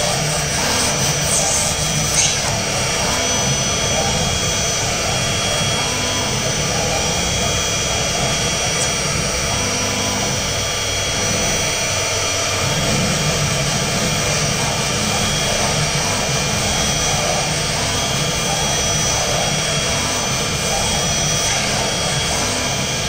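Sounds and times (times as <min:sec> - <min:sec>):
router bit cutting wood: 0:00.0 - 0:23.0
router spindle motor whining: 0:00.0 - 0:23.0.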